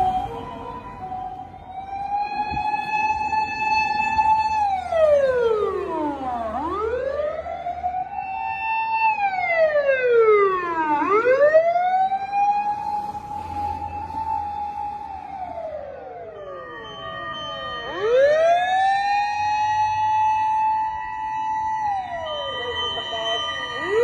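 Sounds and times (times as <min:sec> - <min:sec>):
emergency siren wailing: 0:00.0 - 0:24.0.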